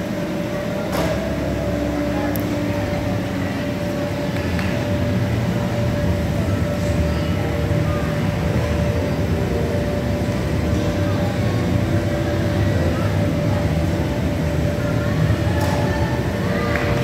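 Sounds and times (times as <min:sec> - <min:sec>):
faint hum: 0:00.0 - 0:17.0
low rumble of a large hall: 0:00.0 - 0:17.0.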